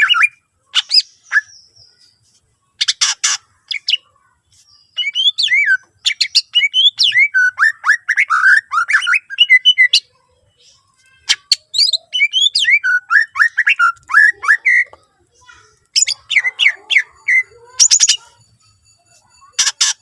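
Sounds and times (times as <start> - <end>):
bird singing whistled notes: 0.0 - 2.2, 4.7 - 10.8, 11.5 - 20.0.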